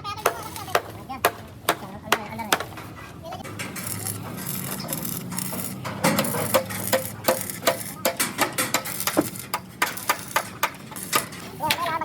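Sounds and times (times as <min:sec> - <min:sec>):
low background voices: 0:00.0 - 0:12.0.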